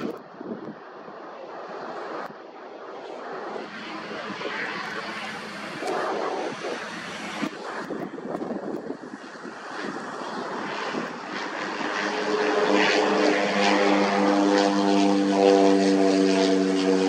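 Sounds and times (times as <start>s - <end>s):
propeller plane engine: 0.0s - 17.0s.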